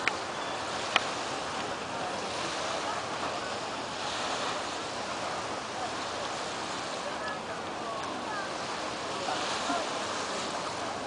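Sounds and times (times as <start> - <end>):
faint crowd chattering: 0.0 - 11.0
gentle surf at shoreline: 0.0 - 11.0.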